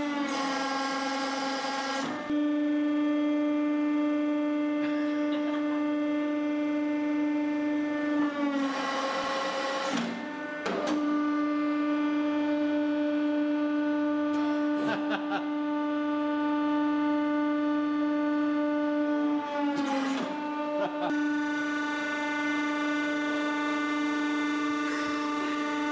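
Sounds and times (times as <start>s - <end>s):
hydraulic pump motor humming: 0.0s - 25.9s.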